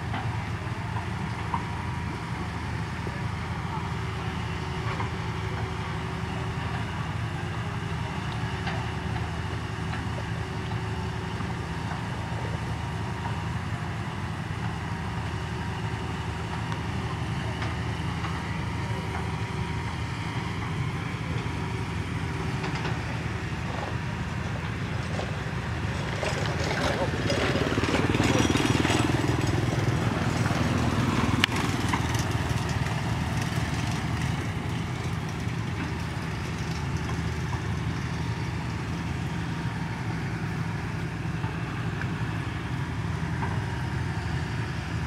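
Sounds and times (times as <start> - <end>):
low engine hum: 0.0 - 45.0.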